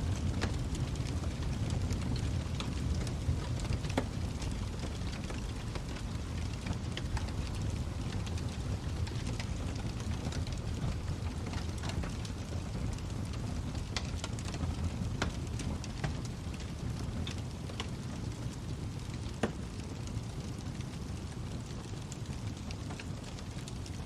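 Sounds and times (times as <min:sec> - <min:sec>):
burning wood crackling and popping: 0:00.0 - 0:24.0
low rumble of flames: 0:00.0 - 0:24.0.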